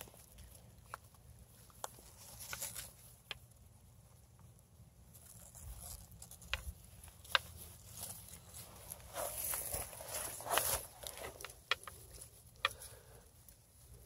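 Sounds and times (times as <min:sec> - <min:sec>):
light rustling in grass: 0:00.0 - 0:14.0.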